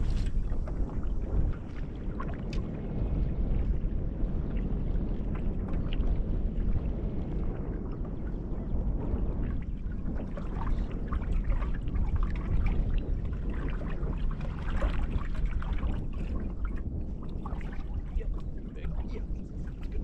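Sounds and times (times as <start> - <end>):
water splashing against a boat: 0.0 - 20.0
wind rumble on microphone: 0.0 - 20.0.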